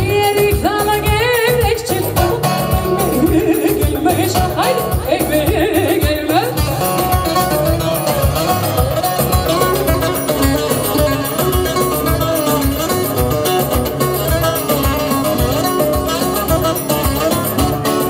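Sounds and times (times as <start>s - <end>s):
plucked strings melody: 0.0s - 18.0s
steady drum beat: 0.0s - 18.0s.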